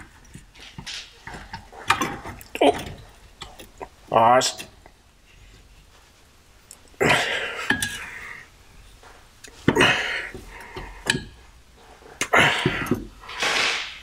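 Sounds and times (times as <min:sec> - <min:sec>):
metal clunks and scraping: 0:00.0 - 0:06.0, 0:07.1 - 0:14.0.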